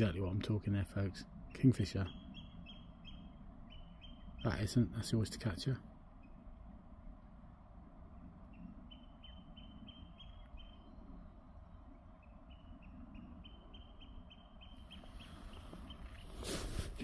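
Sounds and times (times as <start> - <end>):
oystercatcher piping calls: 0.8 - 6.6, 8.4 - 11.2, 11.8 - 17.0.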